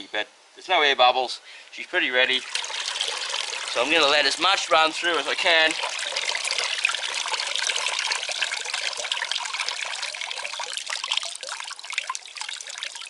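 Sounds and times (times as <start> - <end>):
water splashing into bucket: 2.3 - 13.0.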